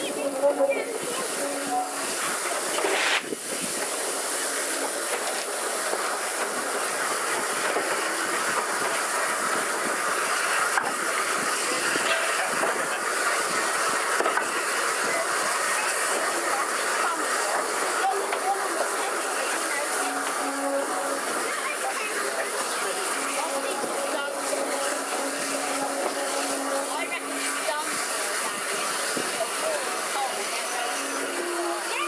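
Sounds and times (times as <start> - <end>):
train running noise: 0.0 - 32.0.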